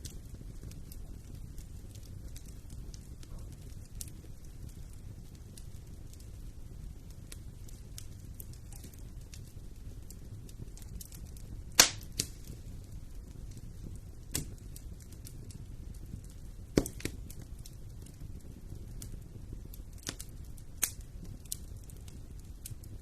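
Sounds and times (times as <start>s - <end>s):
fire crackling: 0.0s - 23.0s
fire rumbling in a fireplace: 0.0s - 23.0s
loud sharp fire pops: 0.0s - 23.0s.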